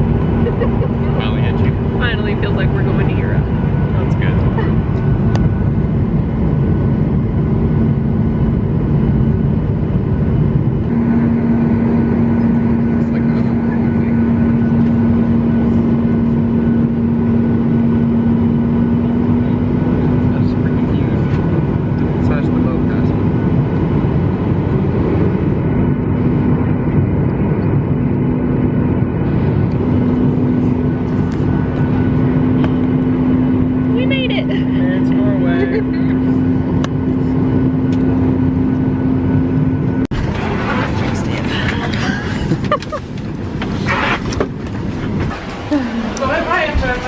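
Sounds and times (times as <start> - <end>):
airliner engine and cabin rumble: 0.0 - 47.0.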